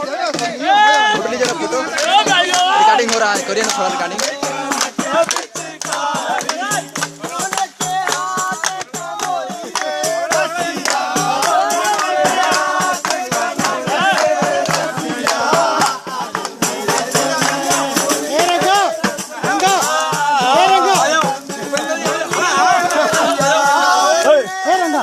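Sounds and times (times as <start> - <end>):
hand percussion: 0.0 - 25.0
person singing folk song: 0.0 - 25.0
shaker rattle: 0.3 - 25.0.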